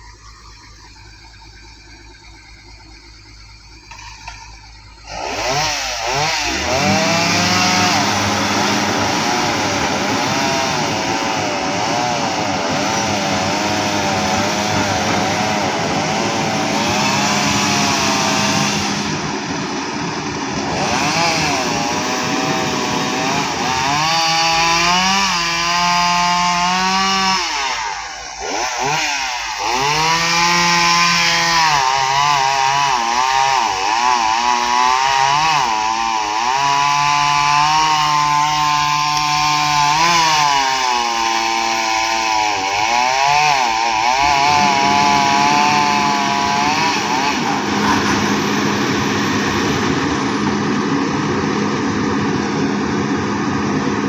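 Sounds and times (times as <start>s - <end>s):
hydraulic excavator working: 0.0s - 54.0s.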